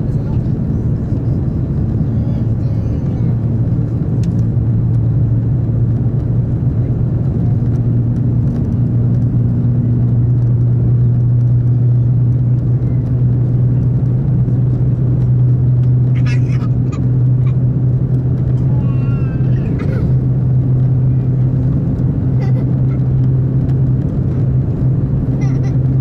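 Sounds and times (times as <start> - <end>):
train cabin rumble and hum: 0.0 - 26.0.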